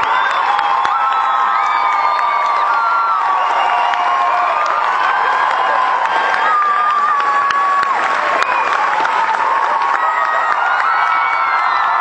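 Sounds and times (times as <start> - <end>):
audience cheering and clapping: 0.0 - 12.0.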